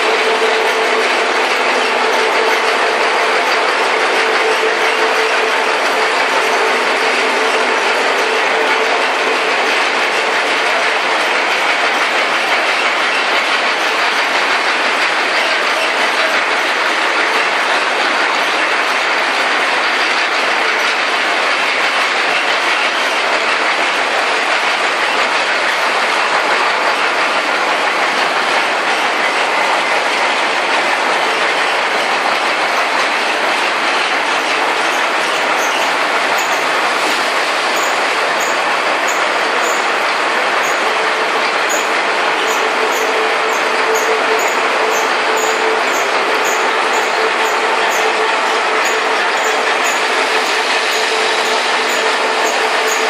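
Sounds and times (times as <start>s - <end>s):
industrial conveyor machinery running: 0.0s - 53.0s.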